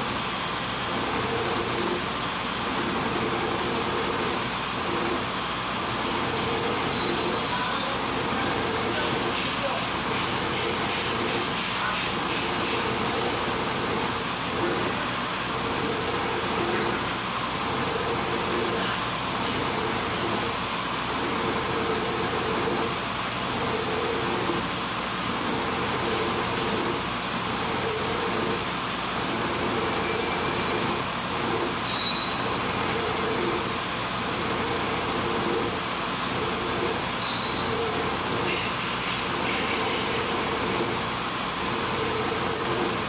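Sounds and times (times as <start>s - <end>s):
milling machine cutting metal: 0.0s - 43.0s.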